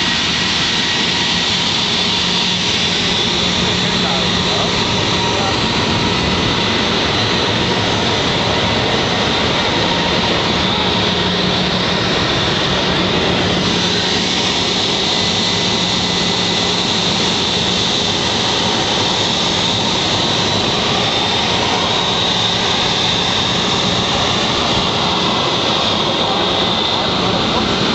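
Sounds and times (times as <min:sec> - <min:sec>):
high steady whine: 0:00.0 - 0:27.9
jet engine running: 0:00.0 - 0:27.9.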